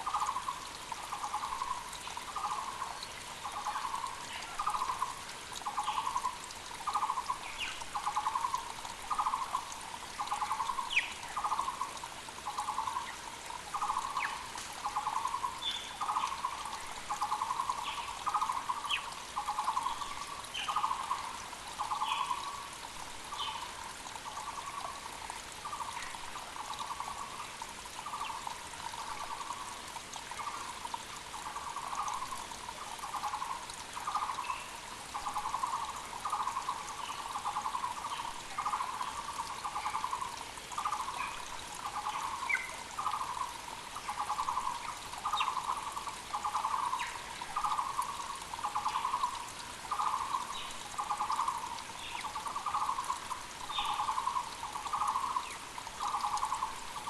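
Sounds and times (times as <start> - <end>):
creek rushing: 0.0 - 57.0.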